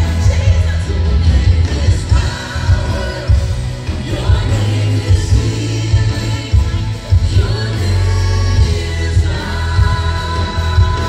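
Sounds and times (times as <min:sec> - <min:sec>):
church band playing: 0:00.0 - 0:11.0
heavy bass: 0:00.0 - 0:11.0
people singing praise song: 0:00.0 - 0:11.0.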